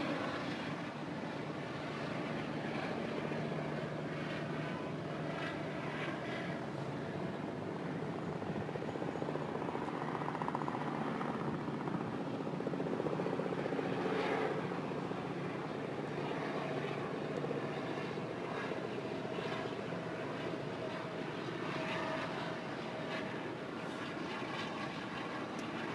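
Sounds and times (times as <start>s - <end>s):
helicopter rotor chopping: 0.0s - 25.9s.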